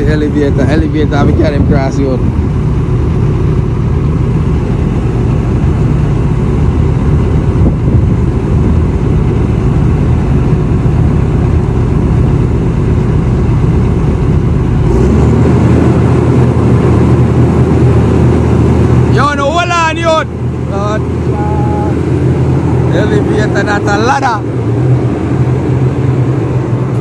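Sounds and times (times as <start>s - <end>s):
heavy machine engine rumbling: 0.0s - 27.0s.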